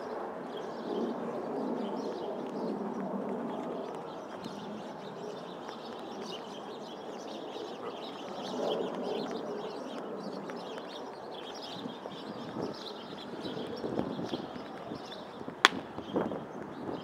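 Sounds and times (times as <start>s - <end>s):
street noise: 0.3s - 17.0s
small birds chirping: 0.5s - 17.0s.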